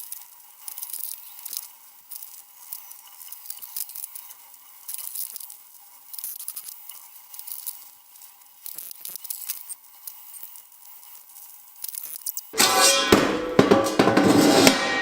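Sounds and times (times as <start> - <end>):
arc welder crackling: 0.0 - 12.6.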